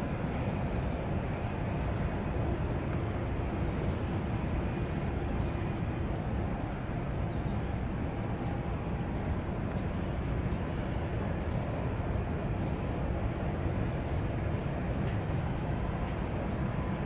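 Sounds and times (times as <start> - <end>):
jet engines rumbling low: 0.0 - 17.0.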